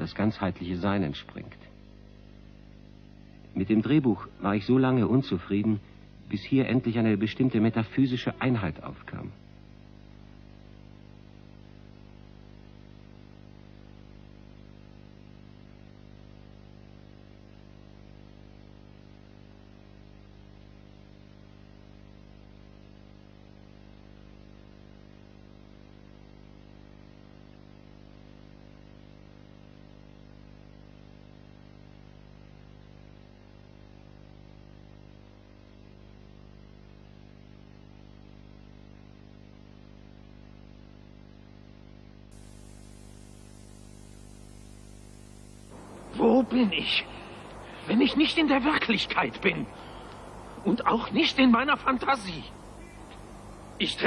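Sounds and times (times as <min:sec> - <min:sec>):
electrical mains hum: 0:00.0 - 0:54.0
low hiss: 0:00.0 - 0:54.0.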